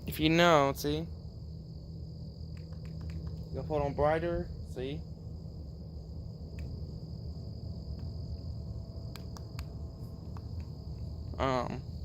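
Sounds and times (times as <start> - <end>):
low rumble: 0.0 - 12.0
night insects chorus: 0.0 - 12.0.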